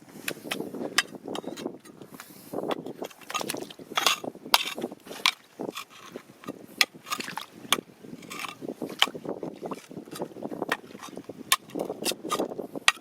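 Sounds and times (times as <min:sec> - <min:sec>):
stones clacking and scraping: 0:00.2 - 0:13.0.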